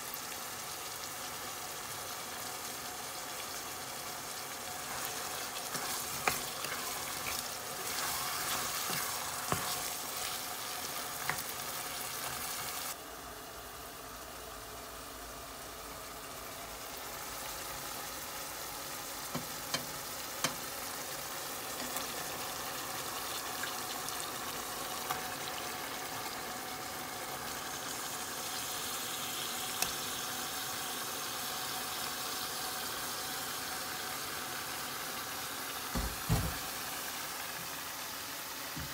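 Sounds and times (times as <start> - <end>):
vegetables sizzling in a pan: 0.0 - 38.9.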